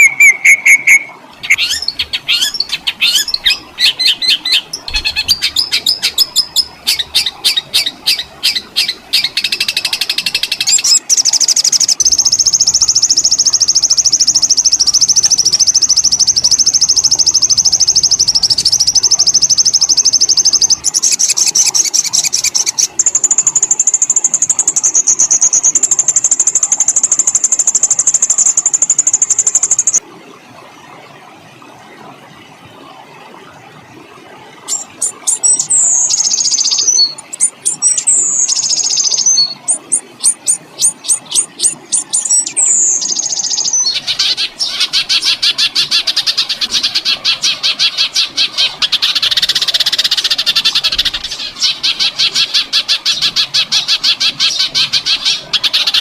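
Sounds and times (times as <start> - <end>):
songbird singing rapid trills: 0.0 - 30.0, 34.7 - 56.0.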